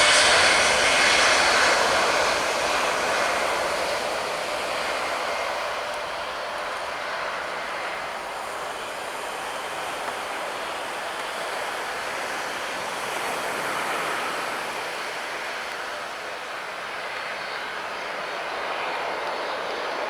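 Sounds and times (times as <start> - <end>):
jet airliner engine rushing: 0.0 - 20.0.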